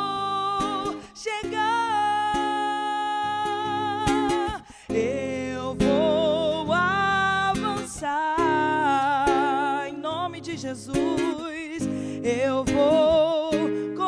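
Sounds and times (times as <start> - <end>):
acoustic guitar strumming chords: 0.0 - 14.0
woman singing into microphone: 0.0 - 14.0.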